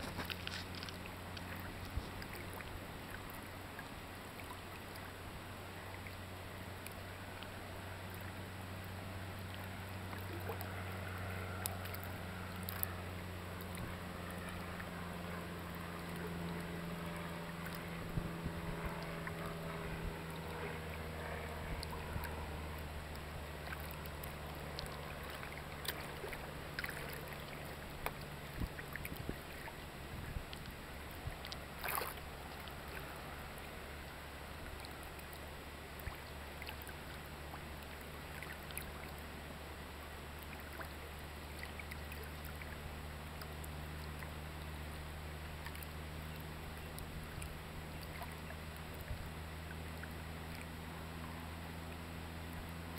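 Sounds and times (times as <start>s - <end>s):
boat motor humming at idle: 0.0s - 52.9s
water splashing against hull: 0.0s - 52.9s.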